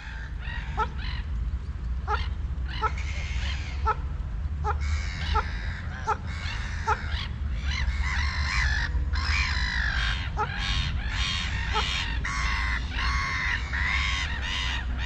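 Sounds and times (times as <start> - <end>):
steady low rumble: 0.0 - 15.0
geese honking: 2.0 - 15.0.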